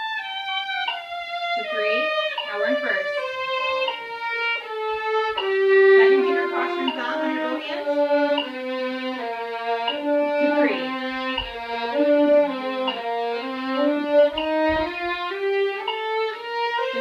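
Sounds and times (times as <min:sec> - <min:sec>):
solo violin playing scales: 0:00.0 - 0:17.0.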